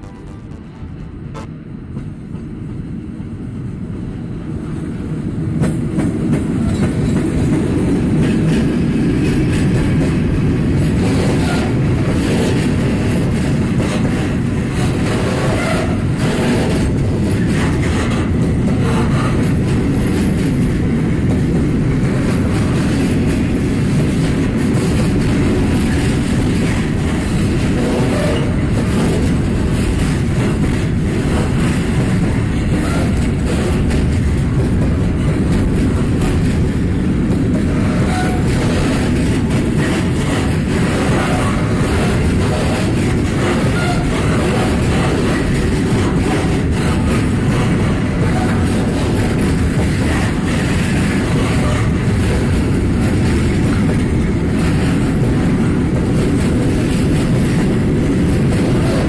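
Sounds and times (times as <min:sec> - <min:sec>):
freight train rumbling past: 0:00.0 - 0:59.0
wheels clicking over rail joints: 0:05.6 - 0:59.0.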